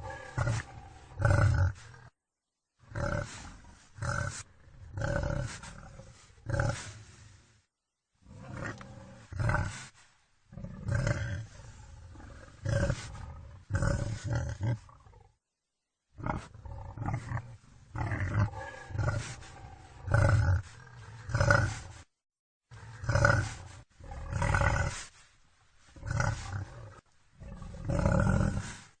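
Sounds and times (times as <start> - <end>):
wild boar grunting: 0.0 - 2.1, 2.9 - 7.2, 8.2 - 9.9, 10.5 - 15.3, 16.2 - 22.1, 22.7 - 25.1, 25.9 - 29.0.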